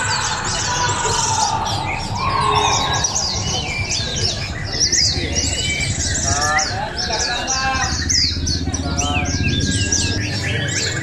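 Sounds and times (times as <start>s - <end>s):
birds chirping rapidly: 0.0s - 11.0s.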